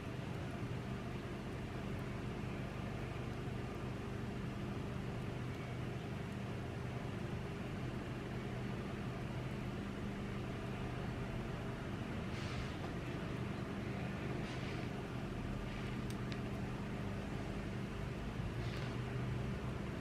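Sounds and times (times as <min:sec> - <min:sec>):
constant hiss: 0:00.0 - 0:20.0
low mechanical hum: 0:00.0 - 0:20.0.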